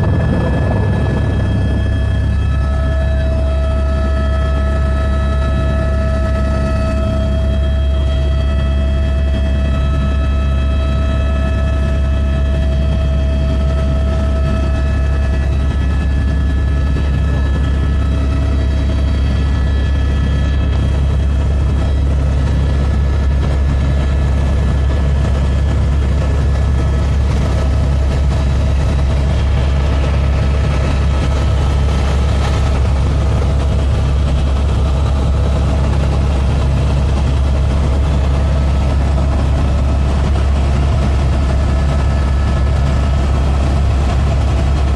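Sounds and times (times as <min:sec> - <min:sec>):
helicopter drone: 0:00.0 - 0:44.9
thin whine: 0:00.0 - 0:44.9.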